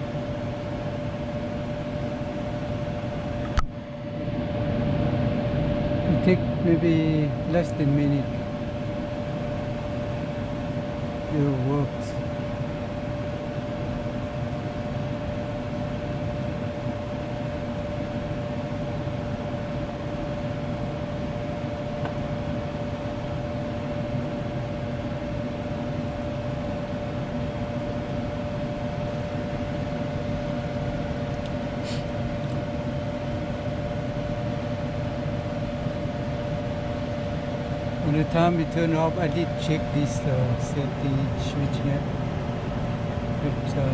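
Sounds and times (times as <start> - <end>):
furnace blower fan whirring: 0.0 - 43.9.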